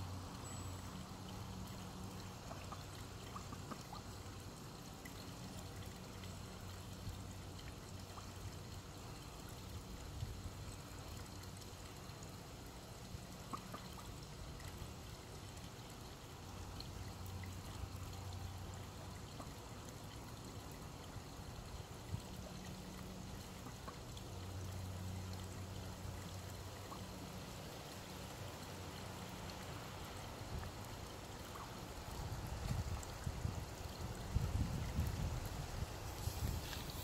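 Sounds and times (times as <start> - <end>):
low steady hum: 0.0 - 37.0
water trickling and splashing: 0.0 - 37.0.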